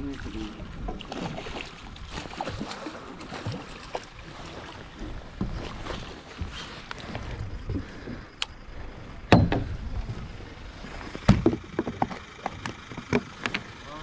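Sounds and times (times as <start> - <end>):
wind rumbling on microphone: 0.0 - 13.8
sea water lapping against walkways: 0.0 - 14.0.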